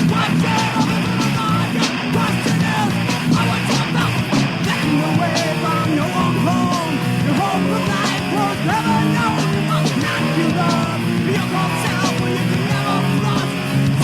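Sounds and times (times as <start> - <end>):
metal band playing: 0.0 - 14.0.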